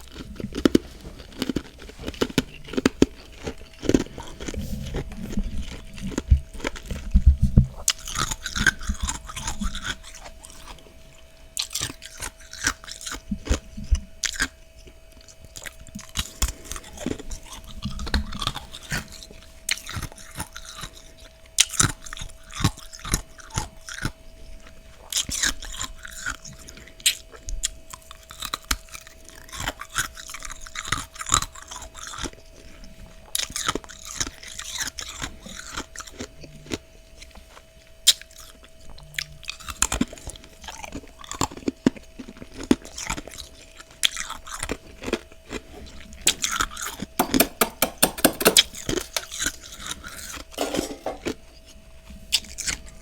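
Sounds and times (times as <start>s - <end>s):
crunching and chewing frost: 0.0s - 47.2s.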